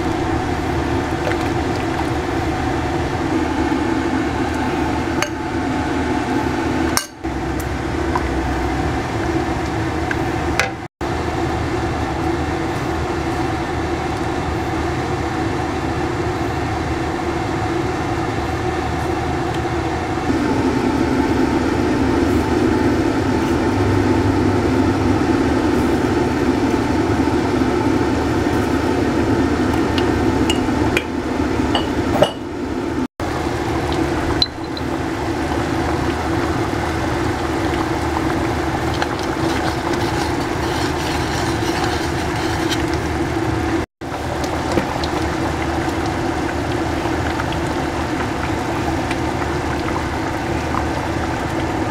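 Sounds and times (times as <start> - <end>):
kitchen hum: 0.0 - 51.9.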